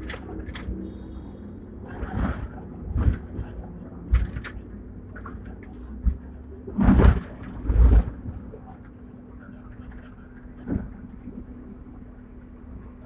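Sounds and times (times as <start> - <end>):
tram running hum: 0.0 - 13.0.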